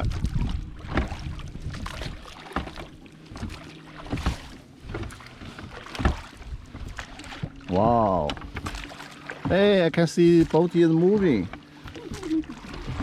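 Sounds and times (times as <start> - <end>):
water splashing around boat: 0.0 - 13.0.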